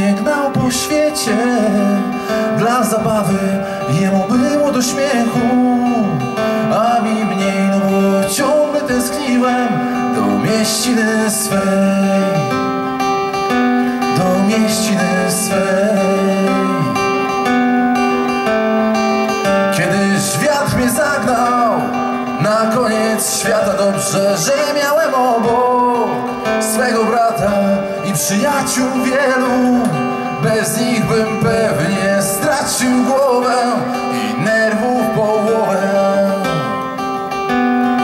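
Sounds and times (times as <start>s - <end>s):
acoustic guitar strummed: 0.0s - 38.0s
harmonica playing: 0.2s - 38.0s.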